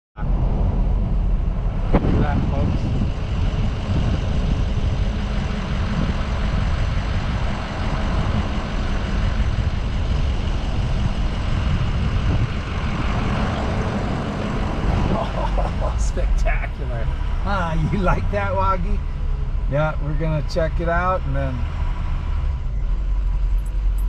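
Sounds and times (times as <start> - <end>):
wind buffeting: 0.2 - 20.4
road rumble: 0.2 - 24.0.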